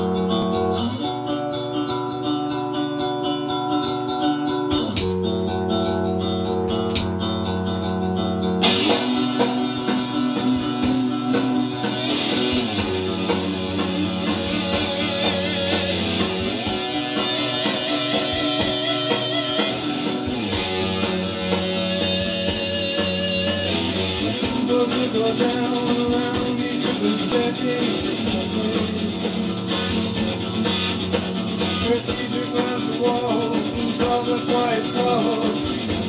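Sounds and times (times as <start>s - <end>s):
guitar music from a record: 0.0s - 36.0s.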